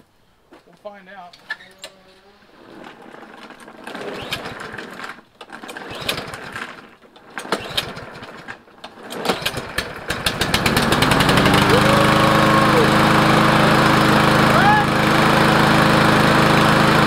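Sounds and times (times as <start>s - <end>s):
lawn mower engine cranking: 2.5s - 17.0s.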